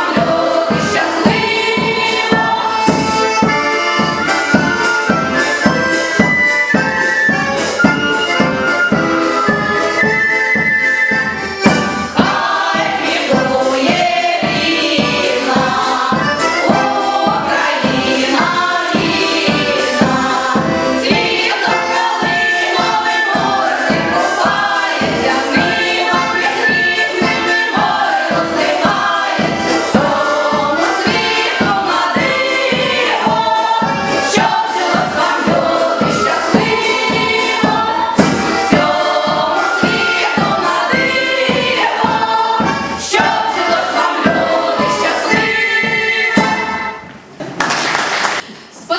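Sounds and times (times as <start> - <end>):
choir singing with accompaniment: 0.0 - 48.5.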